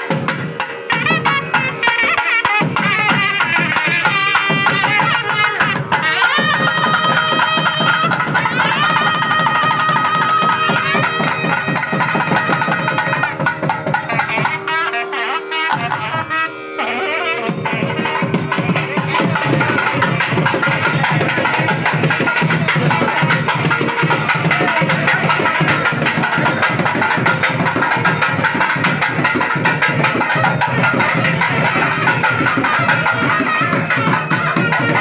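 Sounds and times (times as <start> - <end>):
drums played fast and loud: 0.0 - 14.7, 17.5 - 35.0.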